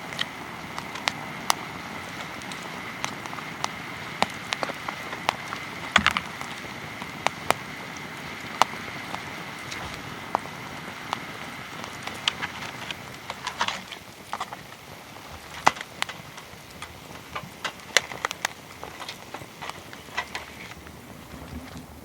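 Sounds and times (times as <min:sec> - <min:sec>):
steady hiss: 0:00.0 - 0:22.0
wood fire crackling and popping: 0:00.0 - 0:22.0.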